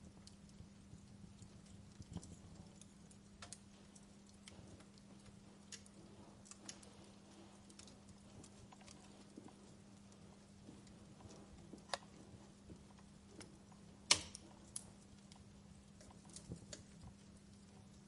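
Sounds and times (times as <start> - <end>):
faint low hum: 0.0 - 18.0
wood fire crackling and popping: 0.0 - 18.0.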